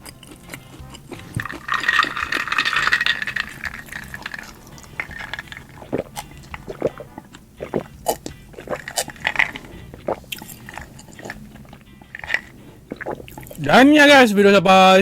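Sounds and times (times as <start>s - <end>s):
drink pouring or sipping: 0.0s - 13.7s.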